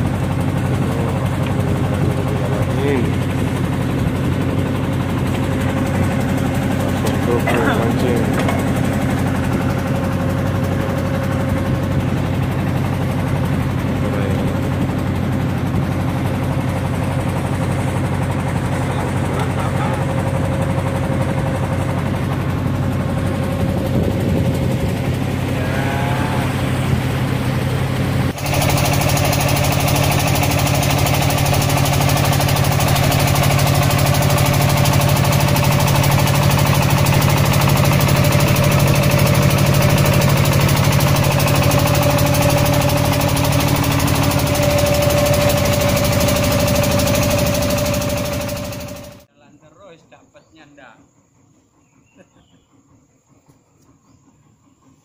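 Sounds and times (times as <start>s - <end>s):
boat engine running: 0.0s - 49.3s.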